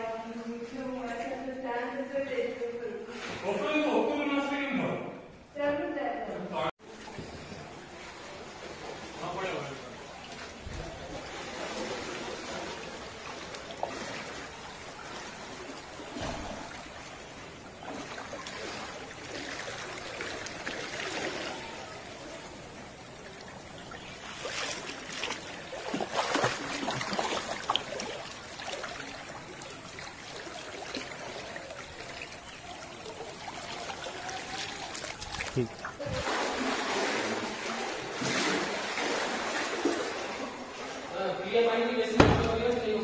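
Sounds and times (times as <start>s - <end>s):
floodwater flowing and trickling: 6.8s - 43.0s
water splashing: 6.8s - 43.0s.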